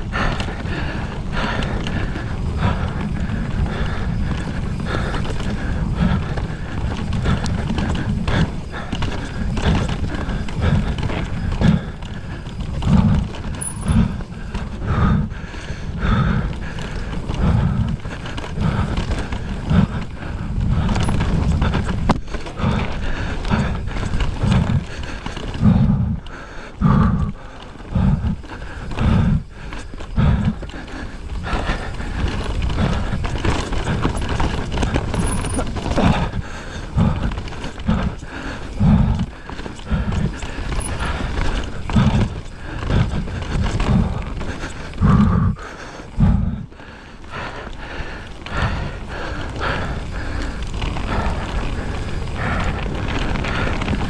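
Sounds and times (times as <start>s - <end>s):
bike rattling over rough ground: 0.0s - 54.0s
bike tyres on dirt and rock: 0.0s - 54.0s
wind rumble on microphone: 0.0s - 54.0s.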